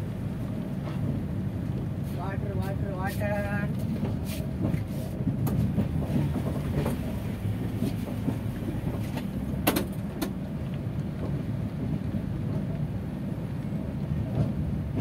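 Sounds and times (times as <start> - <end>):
train coach rumbling: 0.0 - 15.0.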